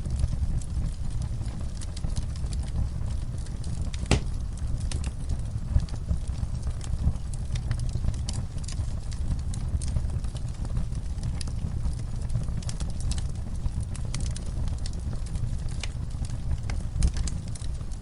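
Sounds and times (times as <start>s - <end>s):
low steady rumble: 0.0s - 18.0s
wood fire crackling: 0.0s - 18.0s.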